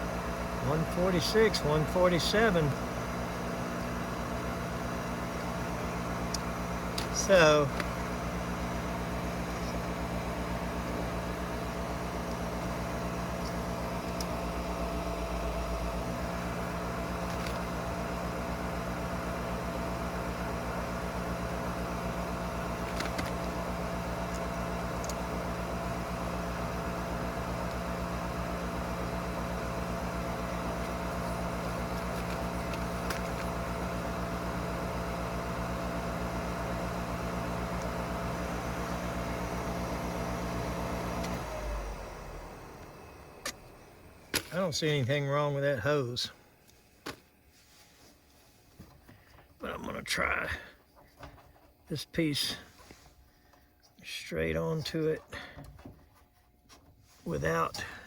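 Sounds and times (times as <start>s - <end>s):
motor humming: 0.0s - 47.2s.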